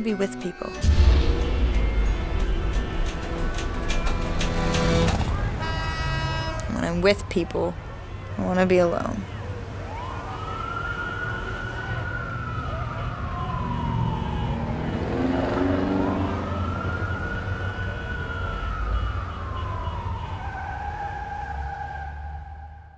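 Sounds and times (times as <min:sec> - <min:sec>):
emergency vehicle siren wailing: 0:00.7 - 0:22.9
low city traffic rumble: 0:00.8 - 0:22.9.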